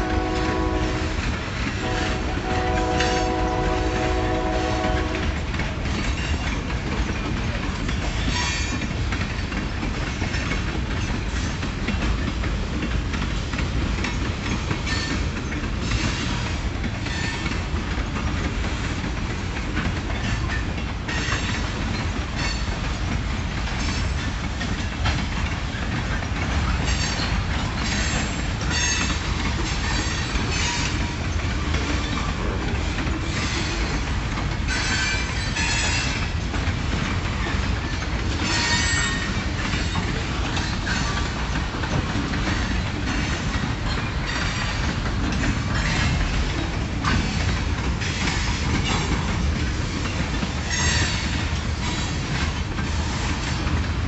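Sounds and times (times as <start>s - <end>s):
train wheels clattering over rail joints: 0.0s - 54.0s.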